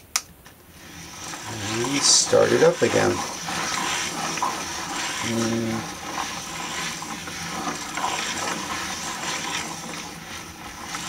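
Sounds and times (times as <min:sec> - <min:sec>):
wooden gears meshing: 0:00.8 - 0:11.0
pen scraping over paper: 0:01.4 - 0:11.0.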